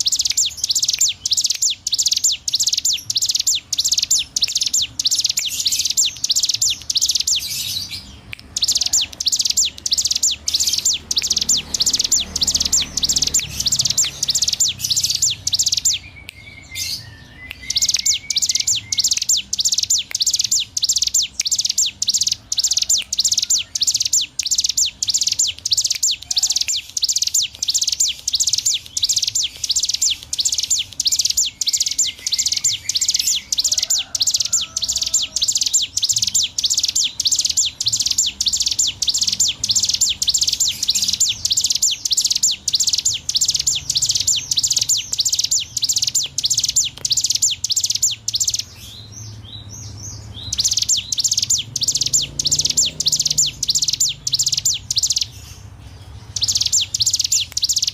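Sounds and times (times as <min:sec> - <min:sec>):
bird singing sharp high notes: 0:00.0 - 0:57.9.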